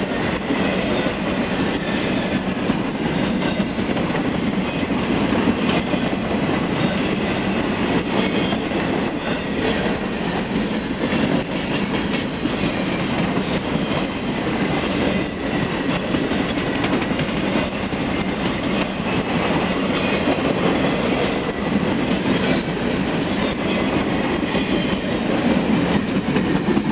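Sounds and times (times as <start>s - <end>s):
train wheels rolling on rails: 0.0s - 26.9s.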